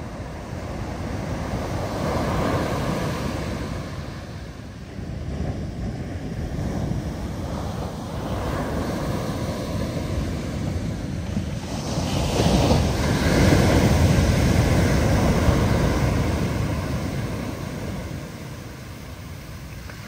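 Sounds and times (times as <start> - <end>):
ocean waves crashing: 0.0 - 20.0
wind buffeting microphone: 0.0 - 20.0.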